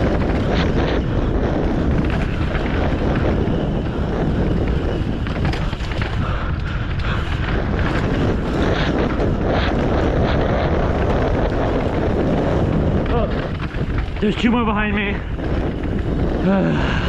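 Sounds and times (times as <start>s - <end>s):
bike rattling on dirt trail: 0.0s - 17.0s
wind buffeting microphone: 0.0s - 17.0s.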